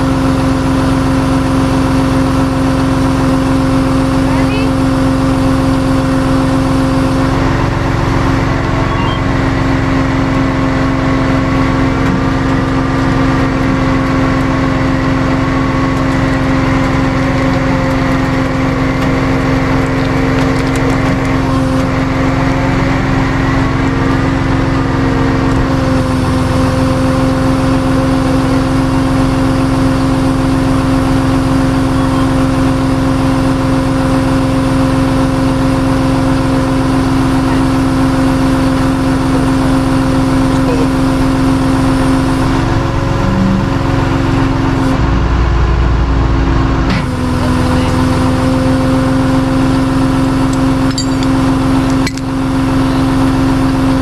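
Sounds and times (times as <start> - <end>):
truck engine running steadily: 0.0 - 54.0.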